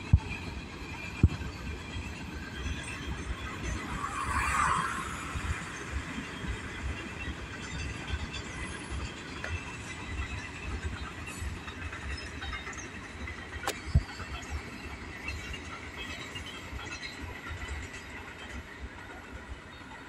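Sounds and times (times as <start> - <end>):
freight train rolling over rails: 0.0 - 20.0
train cars clanking: 0.1 - 20.0
train wheels screeching: 0.8 - 20.0.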